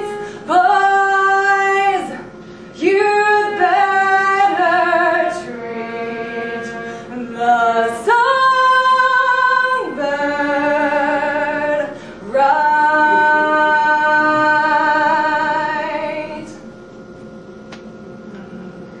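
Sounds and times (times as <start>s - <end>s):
woman singing unaccompanied: 0.0s - 2.2s, 2.8s - 16.6s.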